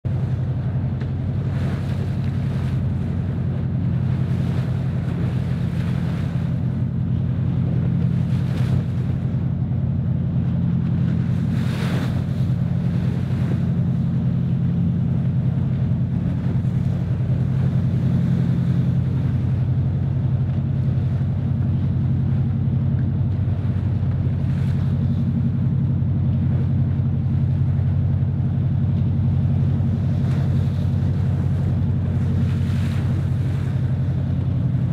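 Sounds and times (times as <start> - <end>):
boat engine drone: 0.0 - 34.9
waves splashing against hull: 0.0 - 34.9
wind buffeting microphone: 0.1 - 34.9.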